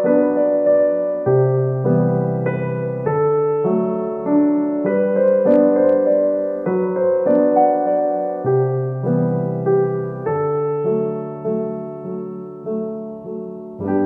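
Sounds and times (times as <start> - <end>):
soft keyboard chords: 0.0 - 14.0.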